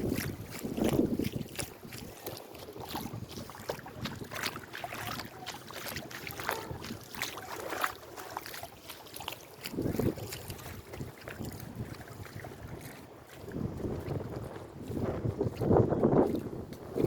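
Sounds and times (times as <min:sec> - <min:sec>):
wind buffeting microphone: 0:00.0 - 0:07.8, 0:09.6 - 0:17.0
water splashing and sloshing: 0:00.0 - 0:17.0.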